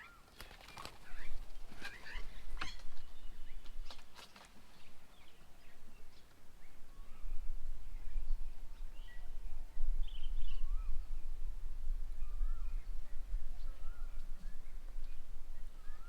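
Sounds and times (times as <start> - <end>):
faint birds calling: 0.0 - 16.0.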